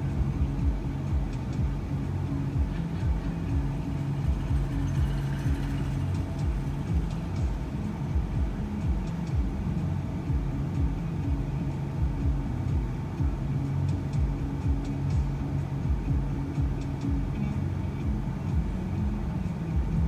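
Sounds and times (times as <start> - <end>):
van rumbling inside cabin: 0.0 - 20.0.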